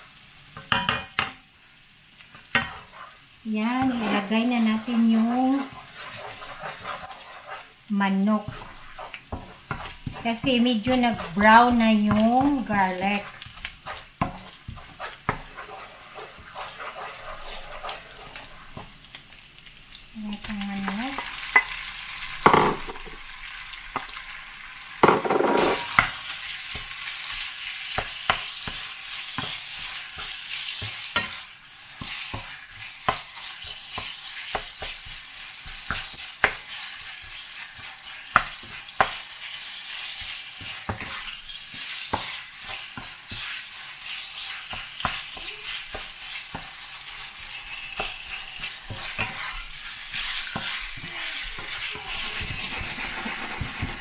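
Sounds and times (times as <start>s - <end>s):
garlic sizzling in hot oil: 0.0s - 54.0s
wooden spatula scraping wok: 2.4s - 19.2s, 25.0s - 54.0s.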